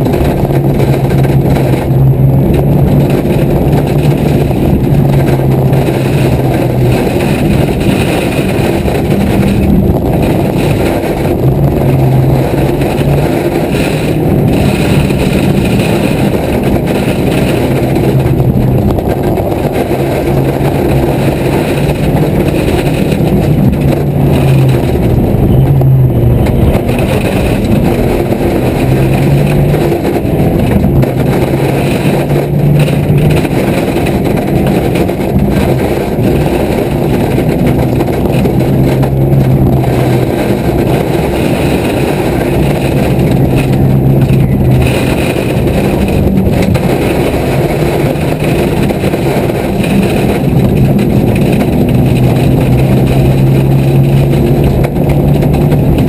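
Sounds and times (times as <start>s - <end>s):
car engine revving: 0.0s - 56.0s
road and tyre rumble: 0.0s - 56.0s.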